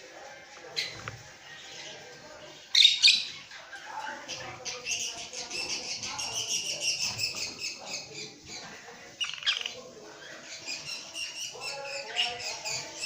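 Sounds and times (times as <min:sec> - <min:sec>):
lovebirds chirping and squawking: 0:00.7 - 0:13.0.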